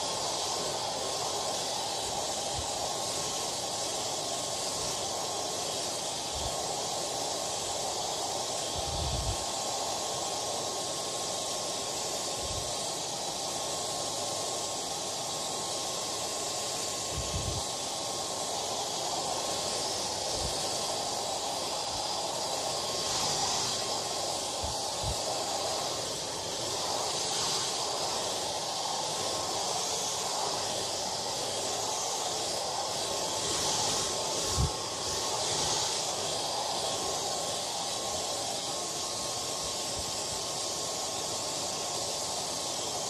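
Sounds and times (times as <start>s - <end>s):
hair dryer blowing: 0.0s - 43.0s.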